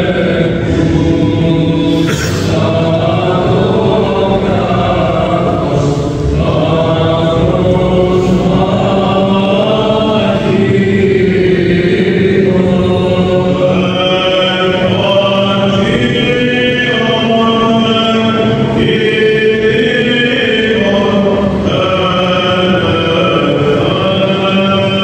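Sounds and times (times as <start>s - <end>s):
men chanting with drone: 0.0s - 25.0s.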